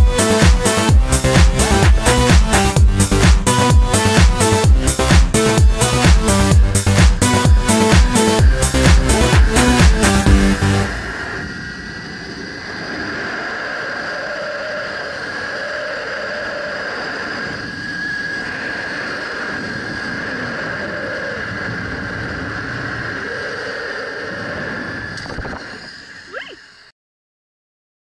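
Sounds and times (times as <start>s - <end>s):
wind rushing over microphone: 0.0s - 26.4s
pulley wheels whirring on cable: 0.2s - 26.6s.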